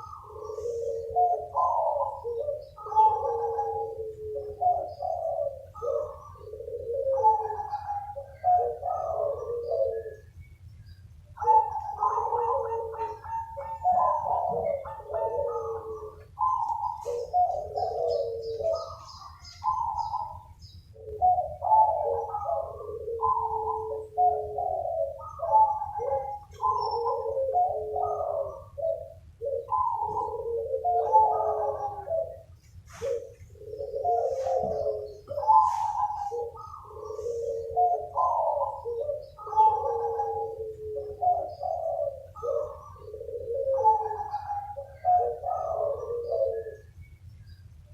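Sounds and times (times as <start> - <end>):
doves cooing: 0.0 - 47.9
low steady hum: 0.0 - 47.9.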